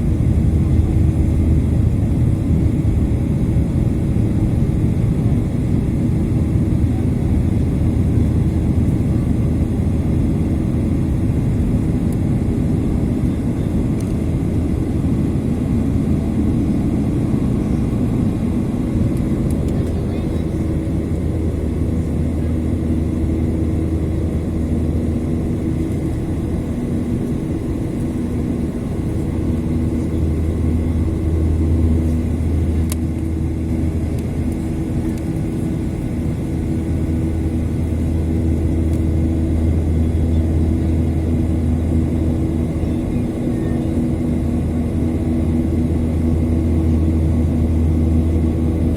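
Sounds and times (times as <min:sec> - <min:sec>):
jet engines rumbling: 0:00.0 - 0:48.9.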